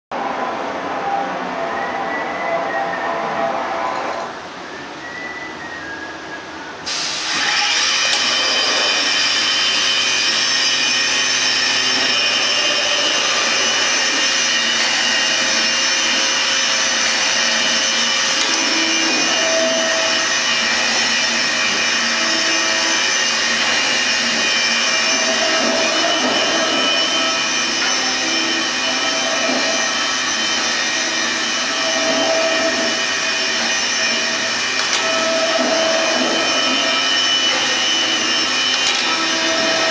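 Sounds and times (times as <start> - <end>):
router machine whine: 6.9 - 39.9.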